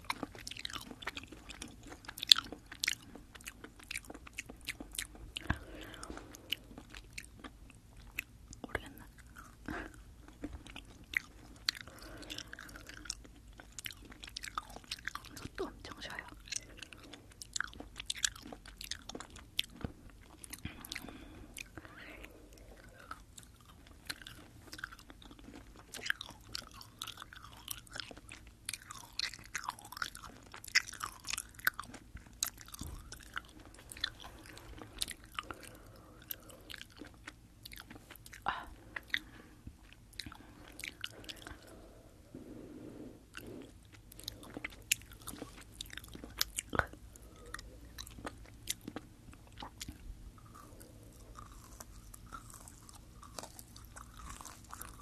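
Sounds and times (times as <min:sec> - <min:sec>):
chewing gummy candy: 0:00.0 - 0:55.0.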